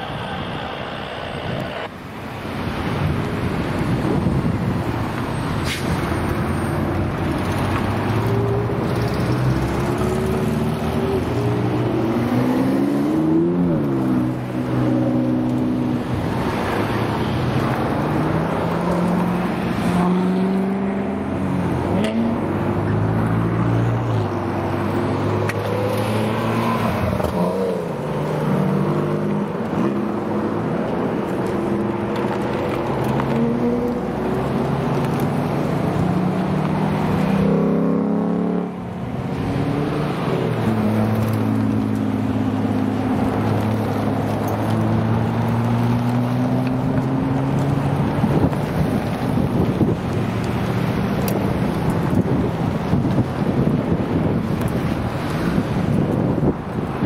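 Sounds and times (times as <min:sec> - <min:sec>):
engines revving: 0:00.0 - 0:57.0
sports cars driving past: 0:00.0 - 0:57.0.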